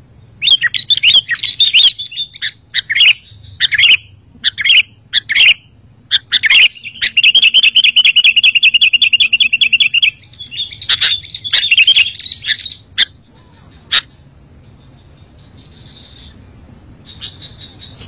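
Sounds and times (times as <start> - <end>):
bird trilling and calling: 0.4 - 18.0.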